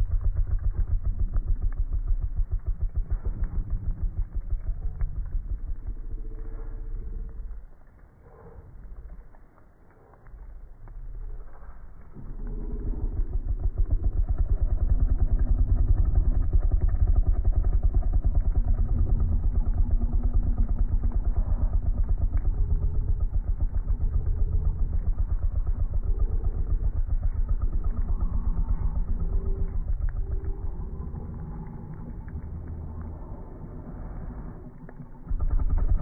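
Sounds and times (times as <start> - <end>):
big cat purring: 0.0 - 36.0.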